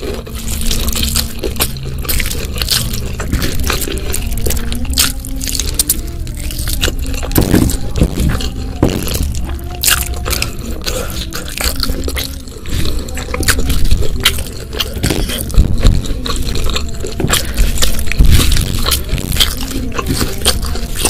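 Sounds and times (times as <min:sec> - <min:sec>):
wet chewing mouth sounds: 0:00.0 - 0:21.0.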